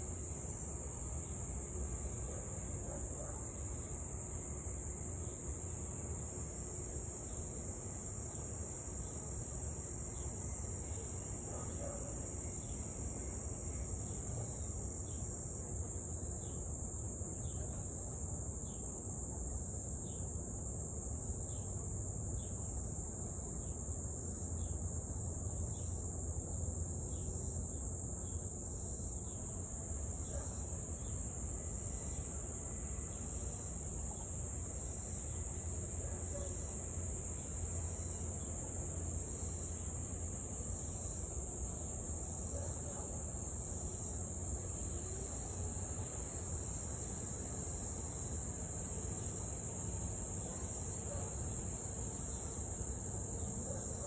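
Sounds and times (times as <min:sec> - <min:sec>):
insects trilling: 0:00.0 - 0:06.6, 0:08.2 - 0:18.0, 0:24.2 - 0:54.0.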